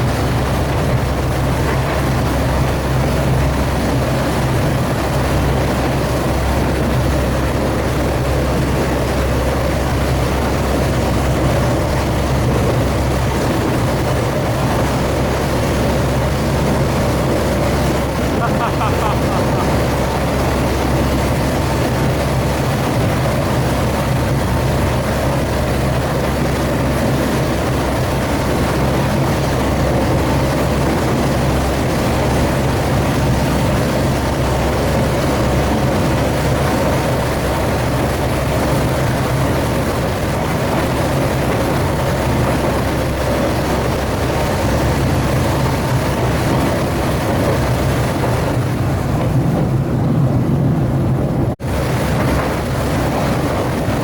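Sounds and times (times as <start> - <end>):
rail cart engine drone: 0.0 - 54.0
wheel and rail noise: 0.0 - 54.0.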